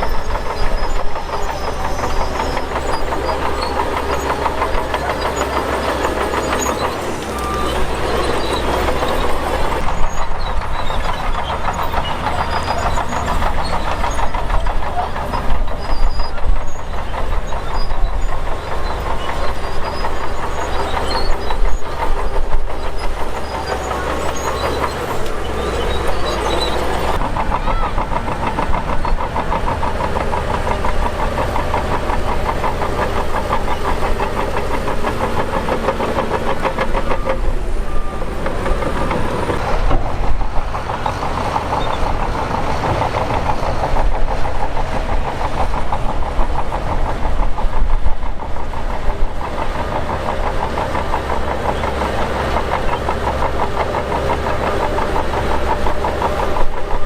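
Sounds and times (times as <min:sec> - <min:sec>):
diesel engine under load: 0:00.0 - 0:57.0
steel tracks clattering: 0:00.0 - 0:57.0.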